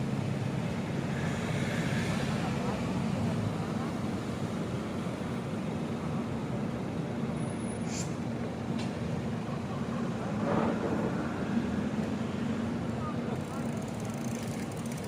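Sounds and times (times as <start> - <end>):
vehicle road rumble: 0.0 - 15.0.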